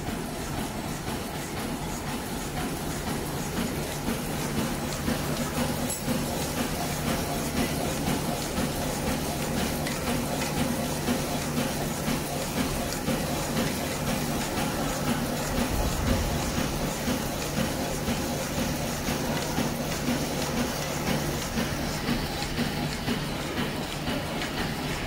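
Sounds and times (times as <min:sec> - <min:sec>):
packing machine hum: 0:00.0 - 0:25.0.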